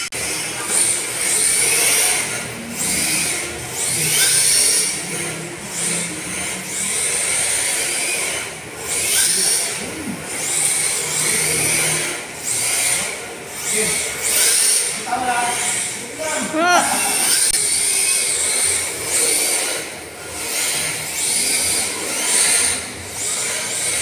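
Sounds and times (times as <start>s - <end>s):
rc car electric motors whining: 0.0s - 24.0s.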